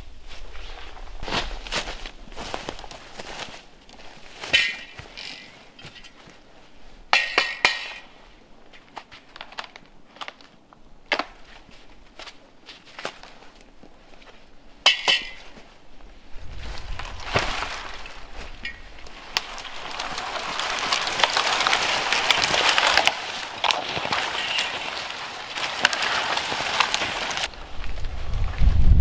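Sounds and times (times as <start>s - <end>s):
rustling noise: 0.0s - 7.1s, 7.9s - 29.0s.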